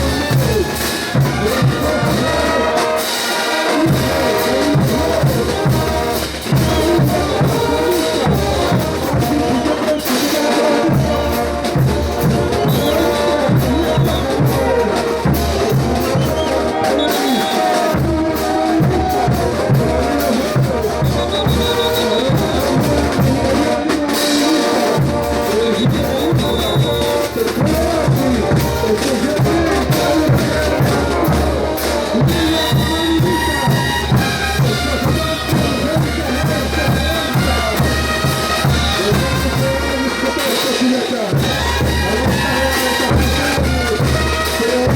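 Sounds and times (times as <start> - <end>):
brass band playing: 0.0 - 44.9
marching drum beat: 0.0 - 44.9
trumpets playing melody: 0.0 - 44.9.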